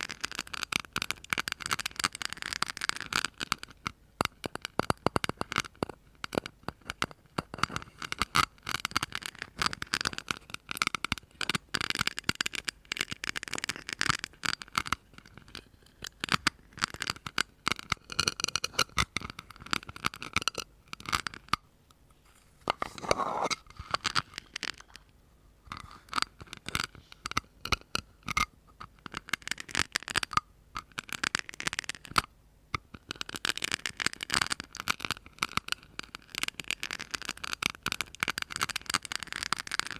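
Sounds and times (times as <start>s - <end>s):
sharp tapping and scratching: 0.0s - 21.6s, 22.6s - 25.1s, 25.7s - 32.2s, 32.8s - 39.9s.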